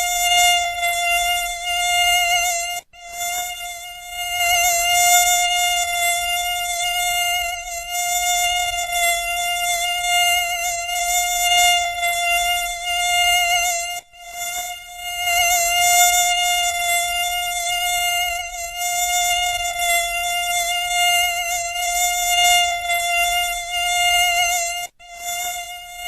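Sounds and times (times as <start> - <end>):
mosquito wings whining: 0.0 - 26.0.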